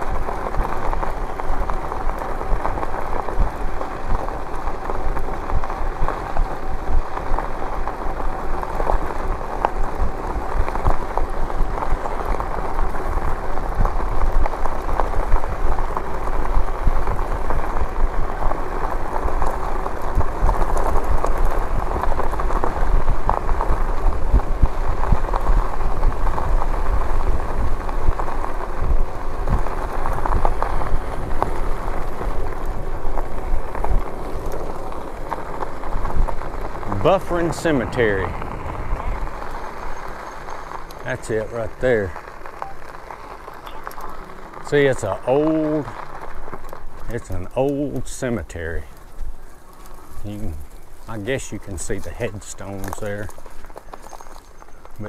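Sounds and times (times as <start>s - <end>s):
bike tyre noise on road: 0.0s - 55.0s
wind rumble on microphone: 0.0s - 55.0s.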